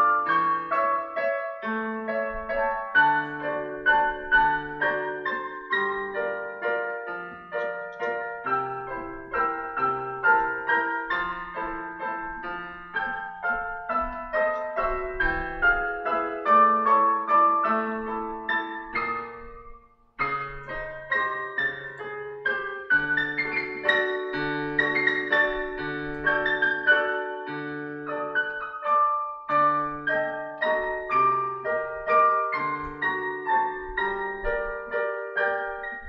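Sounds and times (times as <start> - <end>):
solo piano: 0.0 - 36.0.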